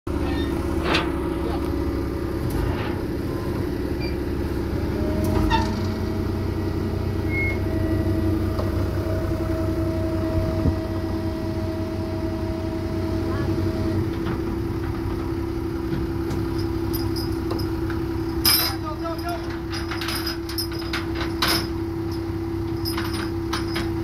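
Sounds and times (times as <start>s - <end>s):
diesel engine idling: 0.1s - 24.0s.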